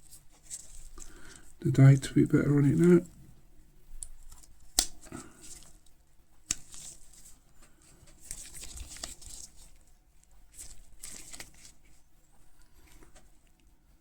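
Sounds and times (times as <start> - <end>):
soft rustling and scraping: 0.0 - 3.3, 4.0 - 14.0.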